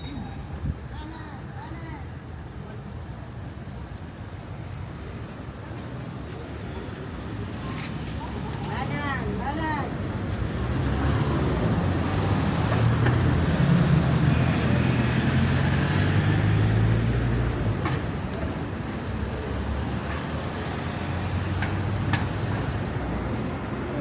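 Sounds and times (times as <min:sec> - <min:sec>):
steady traffic noise: 0:00.0 - 0:24.0.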